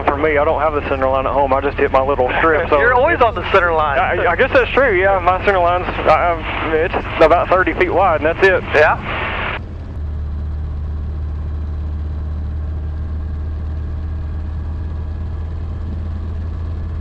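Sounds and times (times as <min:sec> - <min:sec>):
light aircraft engine droning: 0:00.0 - 0:17.0.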